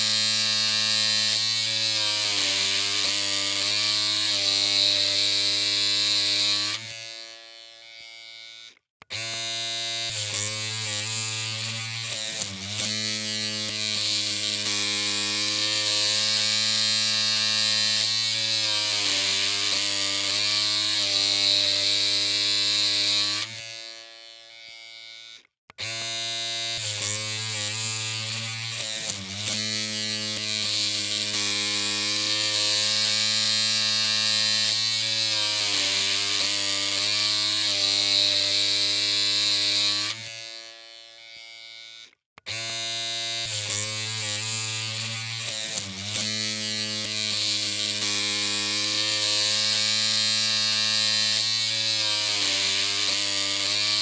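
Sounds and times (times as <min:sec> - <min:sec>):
electric hair clippers humming: 0:00.0 - 0:54.0.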